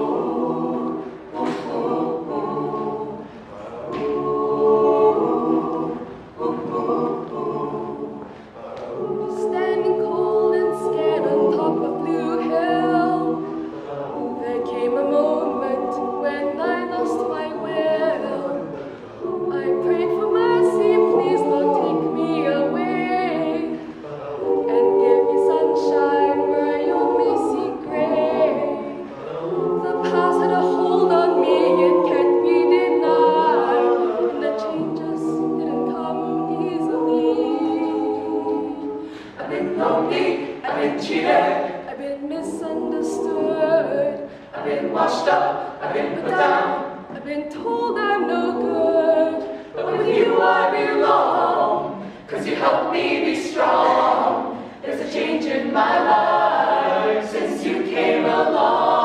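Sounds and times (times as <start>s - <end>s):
a cappella group singing harmony: 0.0s - 59.0s.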